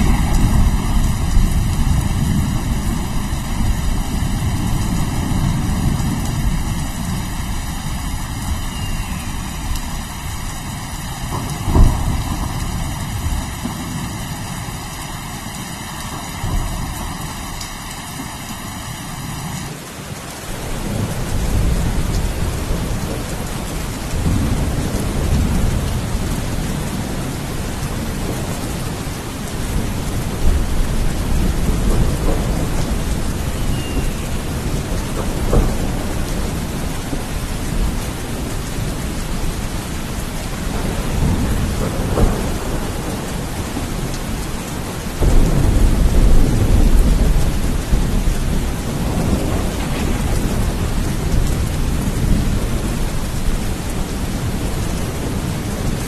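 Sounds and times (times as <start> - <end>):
thunder rumbling: 0.0 - 19.7, 20.5 - 56.0
steady rain: 0.0 - 56.0.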